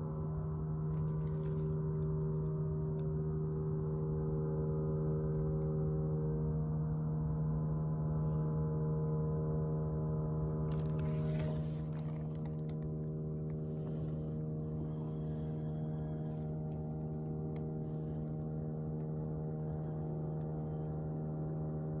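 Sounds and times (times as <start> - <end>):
low-pitched hum with overtones: 0.0 - 22.0.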